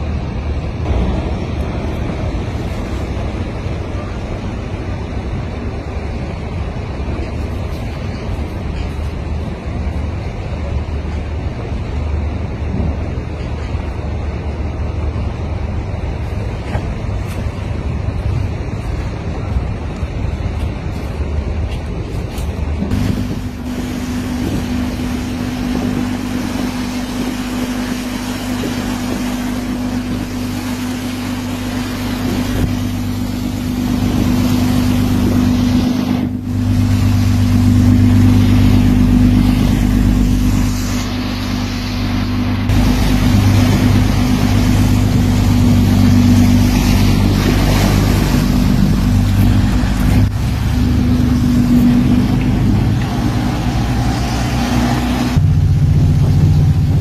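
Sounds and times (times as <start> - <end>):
boat engine droning: 0.0 - 57.0
rushing water: 0.0 - 57.0
wind: 0.0 - 57.0.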